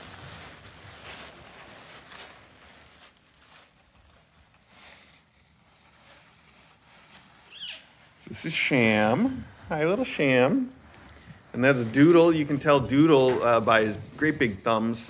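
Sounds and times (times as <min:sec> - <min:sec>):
kittens' paws scuffing: 0:00.0 - 0:15.0
tissue paper rustling: 0:00.0 - 0:15.0.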